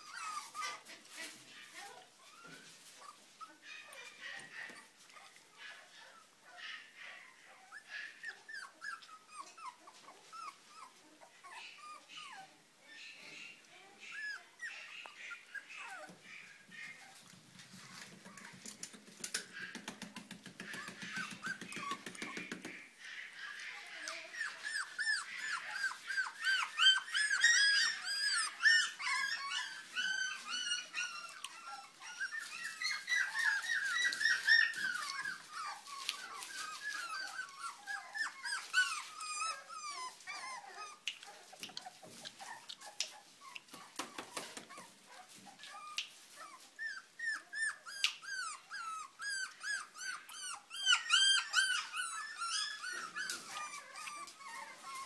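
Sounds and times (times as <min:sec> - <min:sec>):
puppy whimpering: 0:00.0 - 0:18.6, 0:20.6 - 0:22.9, 0:23.5 - 0:55.0.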